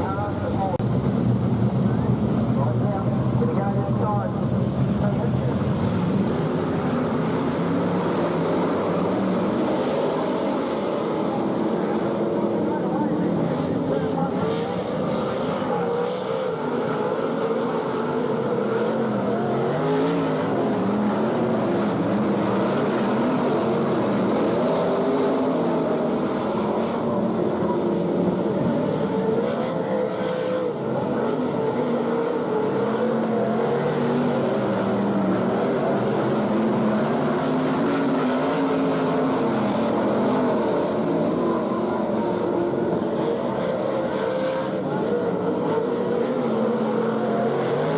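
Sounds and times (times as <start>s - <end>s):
race car engines revving: 0.0s - 47.9s.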